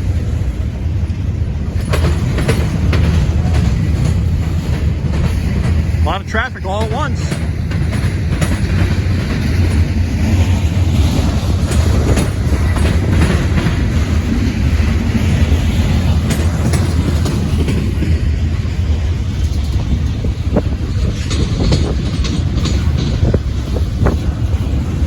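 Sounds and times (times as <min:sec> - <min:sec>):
freight train rumbling past: 0:00.0 - 0:25.0
train wheel clicks: 0:01.0 - 0:25.0.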